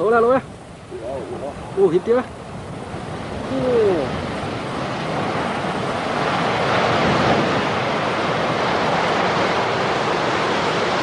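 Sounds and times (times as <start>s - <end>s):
turbulent water roaring: 0.0s - 11.0s.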